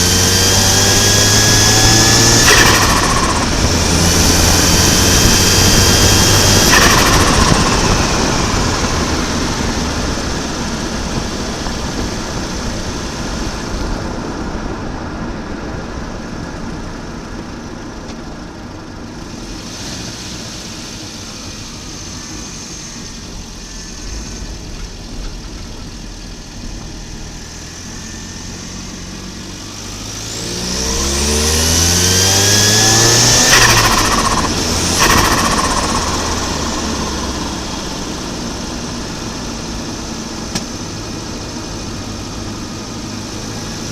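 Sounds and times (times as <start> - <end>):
car engine accelerating: 0.0 - 43.9
high turbo whine: 0.0 - 43.9.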